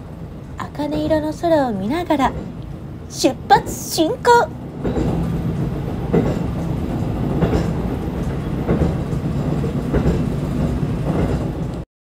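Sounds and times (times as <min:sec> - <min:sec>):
wheels clacking over rail joints: 0:00.4 - 0:11.8.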